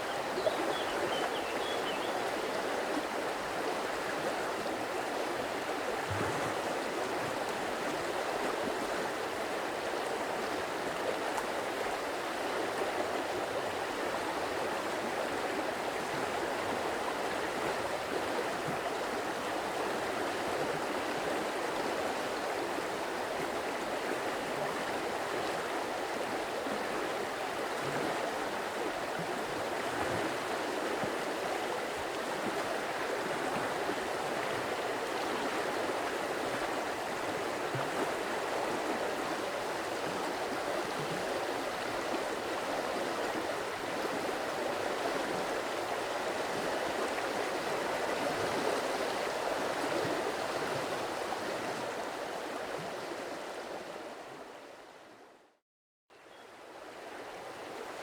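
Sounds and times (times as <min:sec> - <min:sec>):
stream water flowing: 0:00.0 - 0:55.3, 0:56.5 - 0:58.0.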